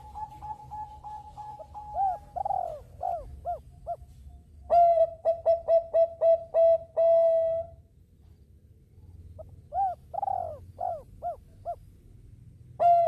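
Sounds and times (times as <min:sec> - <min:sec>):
dove cooing: 0:00.0 - 0:07.8, 0:09.4 - 0:12.0, 0:12.8 - 0:13.0.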